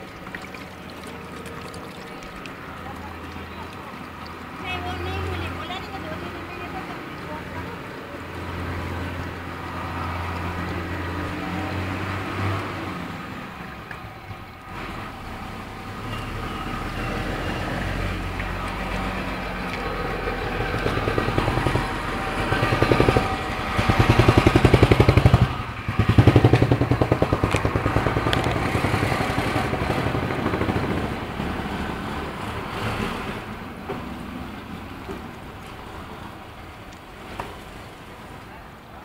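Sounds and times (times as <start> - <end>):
vehicle engine running: 0.0 - 33.5.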